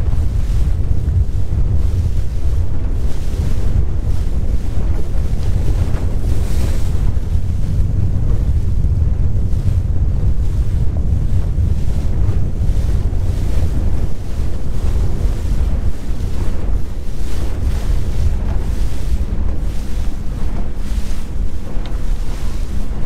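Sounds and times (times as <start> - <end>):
waves against boat hull: 0.0 - 23.0
wind buffeting microphone: 0.0 - 23.0.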